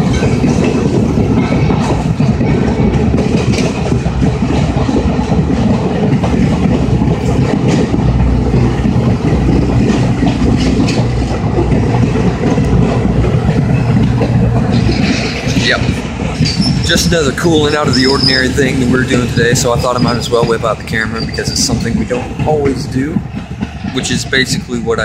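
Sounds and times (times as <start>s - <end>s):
steam train rumbling by: 0.0s - 25.0s
train wheel clicks: 0.0s - 25.0s.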